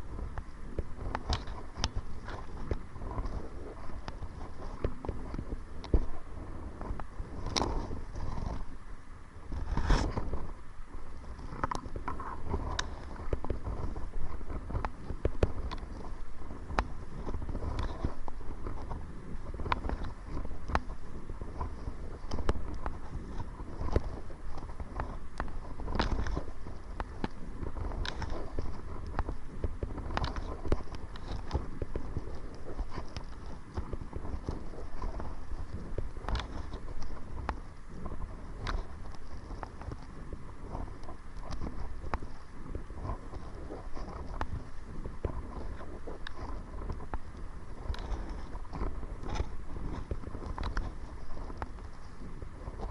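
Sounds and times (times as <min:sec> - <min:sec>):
paddle swishing through water: 0:00.0 - 0:52.9
wind rumble on microphone: 0:00.0 - 0:52.9.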